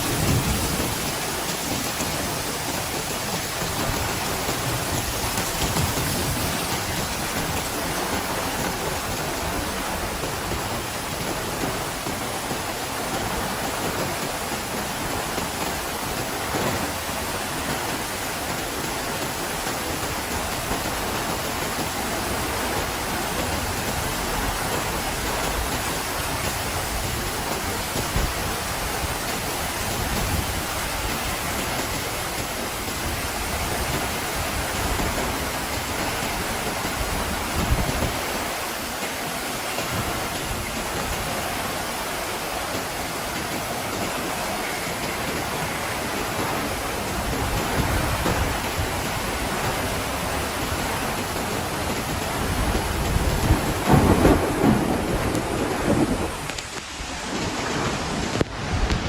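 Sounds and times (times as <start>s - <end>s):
heavy rain: 0.0s - 59.0s
wind buffeting: 0.0s - 59.0s.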